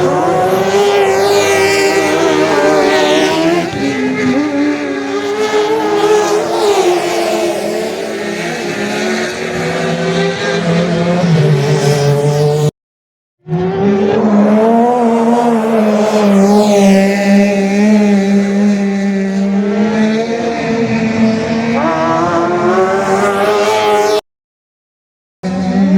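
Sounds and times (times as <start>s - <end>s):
race car engines revving: 0.0s - 12.7s, 13.5s - 24.2s, 25.4s - 25.9s.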